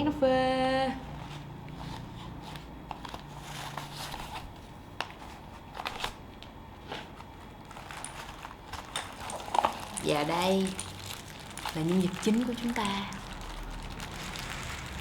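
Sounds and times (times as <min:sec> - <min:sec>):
packaging rustling and crinkling: 0:01.1 - 0:15.0.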